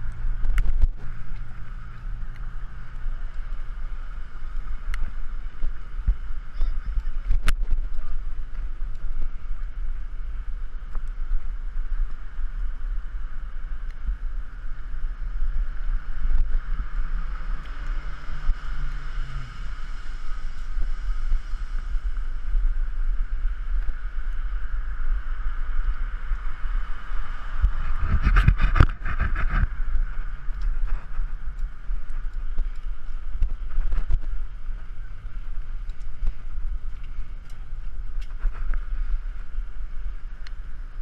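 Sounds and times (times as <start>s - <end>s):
low hum: 0.0s - 41.0s
wind buffeting microphone: 0.0s - 41.0s.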